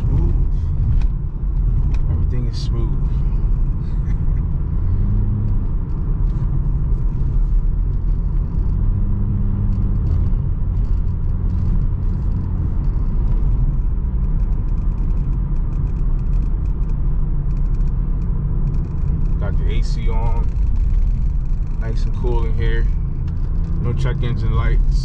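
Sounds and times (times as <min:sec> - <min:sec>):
car engine droning in cabin: 0:00.0 - 0:25.0
road noise: 0:00.0 - 0:25.0.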